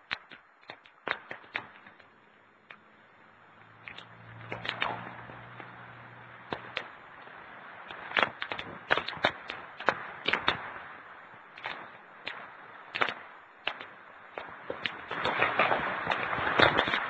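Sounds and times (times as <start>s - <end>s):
sharp cracks and snaps: 0.0s - 2.9s, 3.6s - 17.0s
wind and rain rushing: 0.0s - 17.0s.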